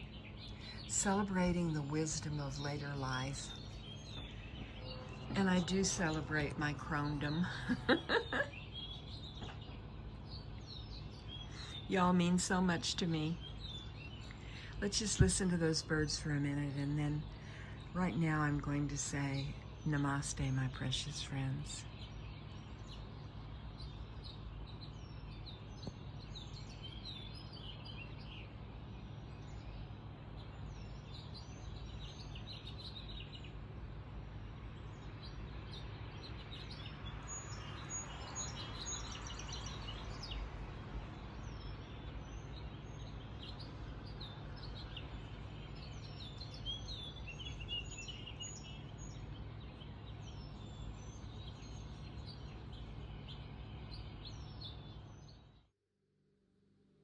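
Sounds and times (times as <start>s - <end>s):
low background hum: 0.0s - 55.7s
songbirds chirping and whistling: 0.0s - 55.7s.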